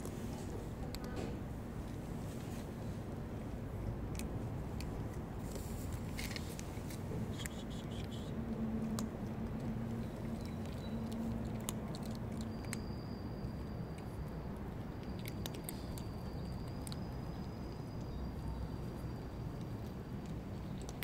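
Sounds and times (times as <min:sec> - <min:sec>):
cats crunching dry kibble: 0:00.0 - 0:12.9, 0:13.5 - 0:21.0
low background rumble: 0:00.0 - 0:21.0.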